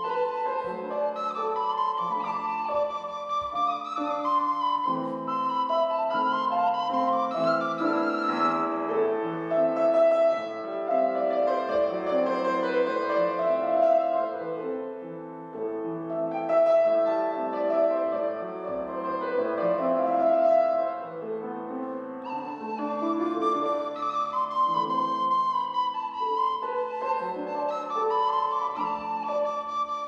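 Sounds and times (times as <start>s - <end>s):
grand piano playing: 0.0s - 30.0s.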